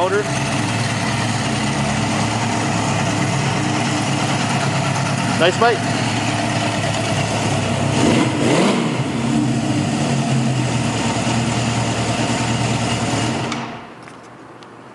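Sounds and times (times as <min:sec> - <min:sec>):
motorcycle engine idling: 0:00.0 - 0:13.4.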